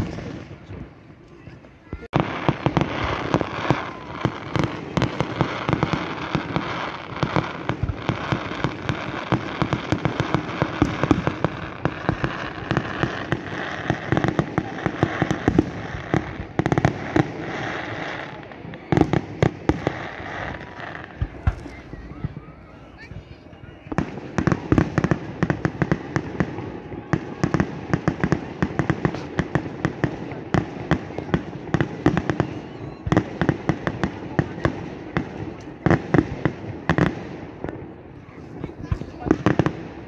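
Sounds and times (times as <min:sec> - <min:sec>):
firework bangs: 0:00.0 - 0:40.0
firework crackling: 0:00.0 - 0:40.0.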